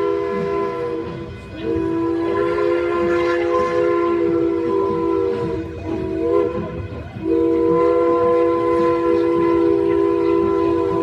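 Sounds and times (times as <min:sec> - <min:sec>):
steam locomotive chime whistle: 0:00.0 - 0:11.0.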